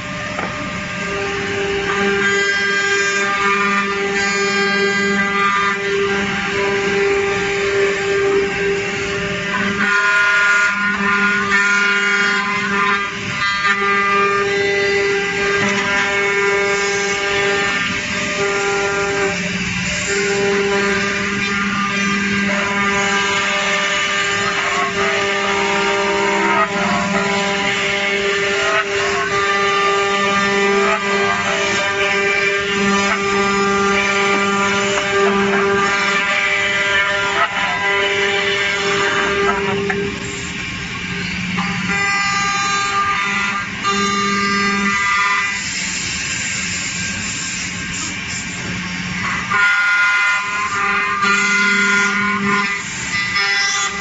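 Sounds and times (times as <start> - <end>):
boring machine motors whining: 0.0 - 54.0.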